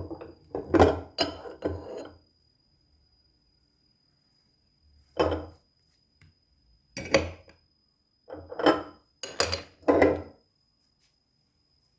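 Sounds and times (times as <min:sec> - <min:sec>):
faint high whine: 0:00.0 - 0:11.9.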